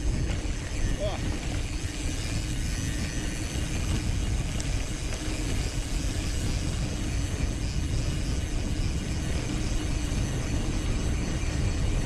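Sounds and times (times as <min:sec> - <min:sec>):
bike tyres rumbling: 0:00.0 - 0:12.0
wind rushing over microphone: 0:00.0 - 0:12.0.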